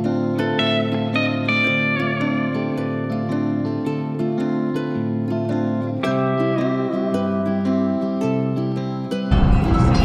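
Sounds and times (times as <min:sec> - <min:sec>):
guitar instrumental music: 0:00.0 - 0:10.0.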